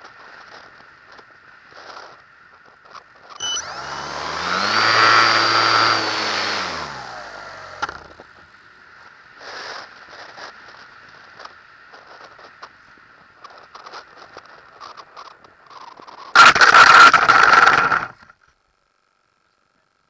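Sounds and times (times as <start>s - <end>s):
electric motor and propeller whine: 0.0s - 18.3s.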